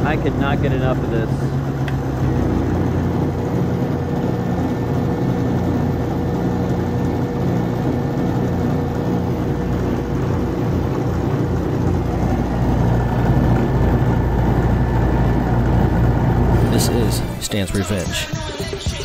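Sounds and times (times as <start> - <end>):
electric motor humming: 0.0 - 17.4.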